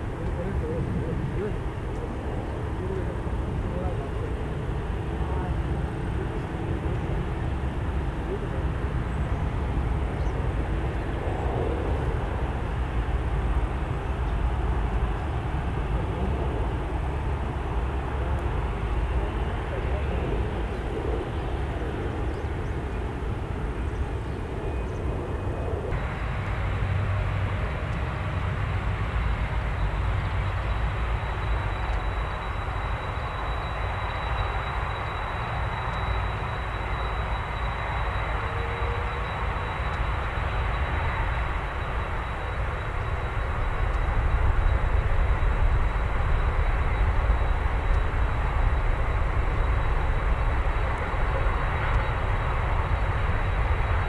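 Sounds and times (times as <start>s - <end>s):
jet engine high whine: 0.0s - 54.0s
jet engines deep rumble: 0.0s - 54.0s.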